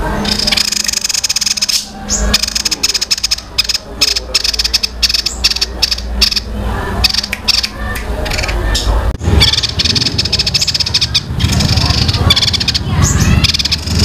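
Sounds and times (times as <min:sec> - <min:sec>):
steady low hum: 0:00.0 - 0:14.0
songbird chattering trill: 0:00.2 - 0:07.7, 0:09.4 - 0:14.0.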